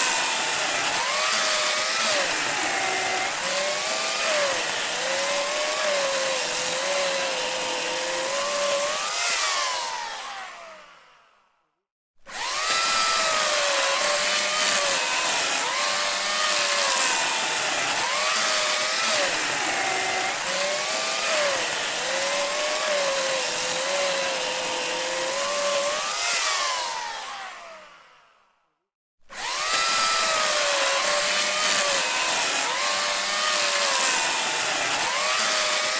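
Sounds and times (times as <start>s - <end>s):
electric saw cutting wood: 0.0s - 11.4s, 12.3s - 28.5s, 29.3s - 35.9s.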